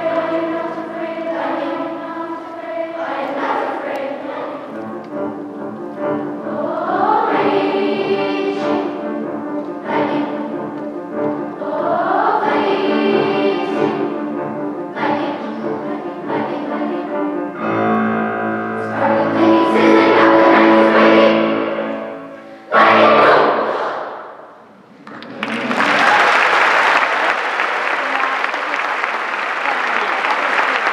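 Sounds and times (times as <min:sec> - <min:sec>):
children's choir singing: 0:00.0 - 0:25.0.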